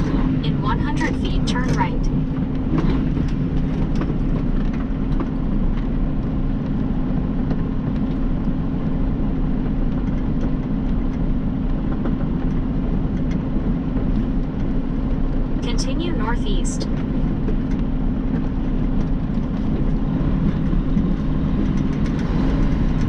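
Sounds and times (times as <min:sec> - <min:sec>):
truck engine and road noise: 0:00.0 - 0:23.0.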